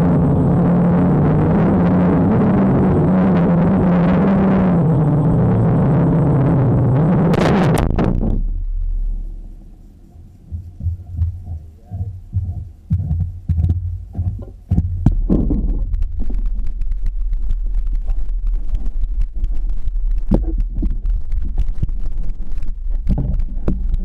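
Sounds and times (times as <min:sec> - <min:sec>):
low muffled rumble: 0:00.0 - 0:24.0.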